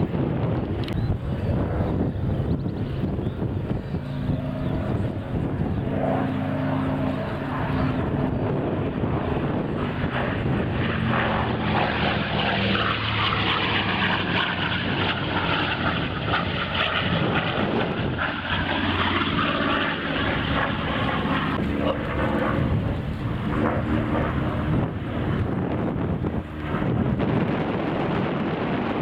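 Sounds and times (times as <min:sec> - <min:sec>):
propeller airplane flying past: 0:00.0 - 0:29.0.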